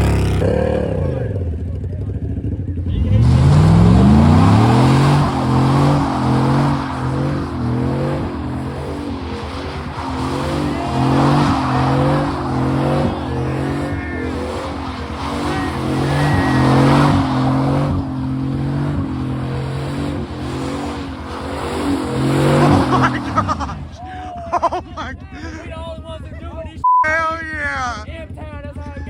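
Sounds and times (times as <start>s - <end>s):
pickup truck engine revving: 0.0s - 1.6s, 2.8s - 25.7s
tyres spinning on pavement: 2.8s - 26.4s.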